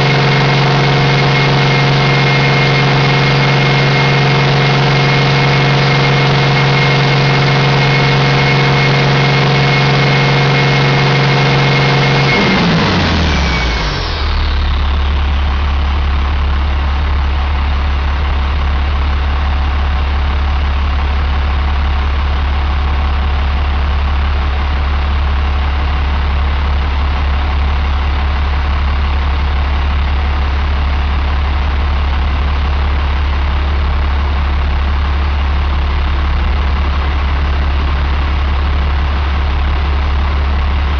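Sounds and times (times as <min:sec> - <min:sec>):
diesel engine whining: 0:00.0 - 0:40.9.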